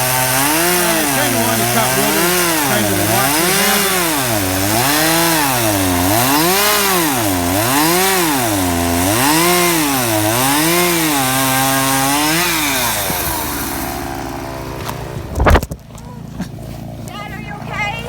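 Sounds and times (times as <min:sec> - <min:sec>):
chainsaw cutting log: 0:00.0 - 0:15.5.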